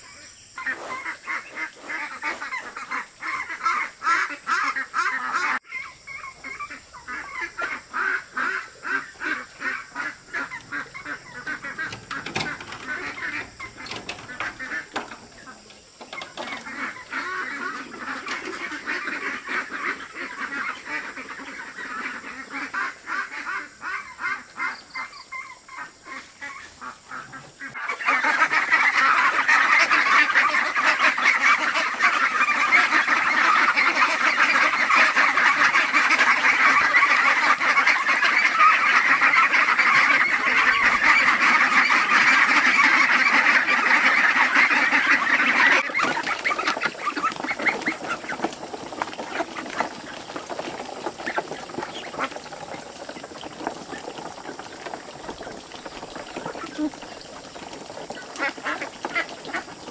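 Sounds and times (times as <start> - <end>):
domestic fowl chattering: 0.0 - 59.9.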